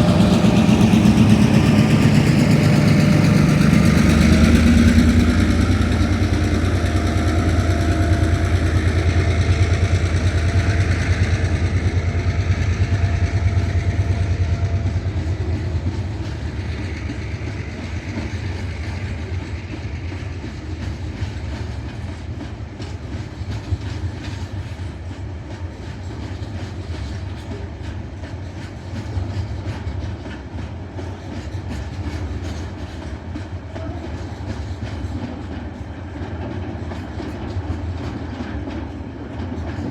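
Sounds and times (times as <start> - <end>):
diesel locomotive engines: 0.0 - 39.9
train wheels clicking over rail joints: 0.0 - 39.9.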